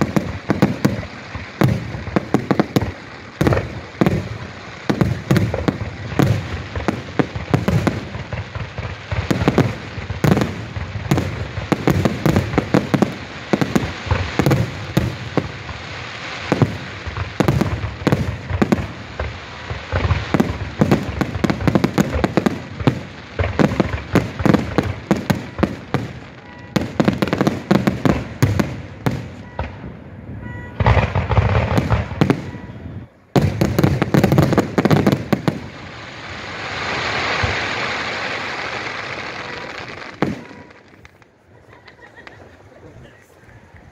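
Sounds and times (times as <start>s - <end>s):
firework shells bursting: 0.0s - 30.0s, 33.4s - 42.6s.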